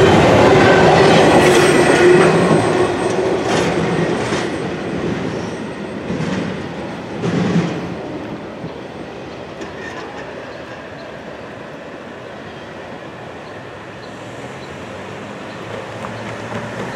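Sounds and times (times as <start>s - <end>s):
loud train clatter: 0.0s - 16.9s
train wheels rumbling on track: 0.0s - 16.9s.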